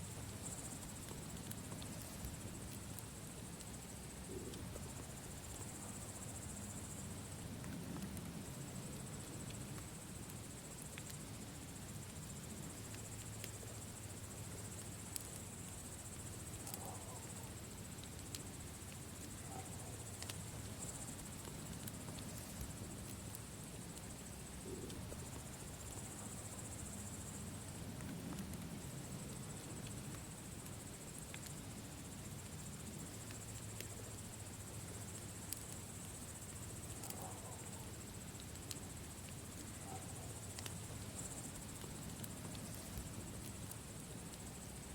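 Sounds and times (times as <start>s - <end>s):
crickets chirring: 0.0s - 44.9s
campfire crackling and popping: 0.1s - 44.9s.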